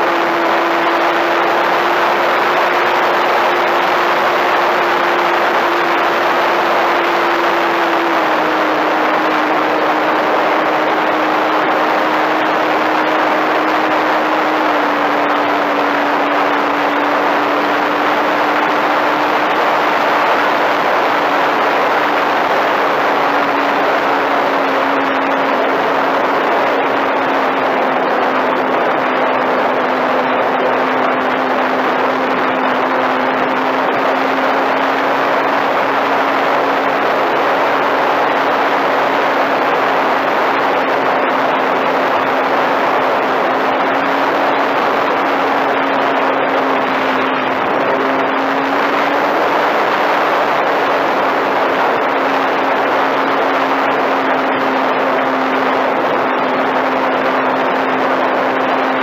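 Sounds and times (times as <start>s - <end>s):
electric motor and propeller humming: 0.0s - 59.0s.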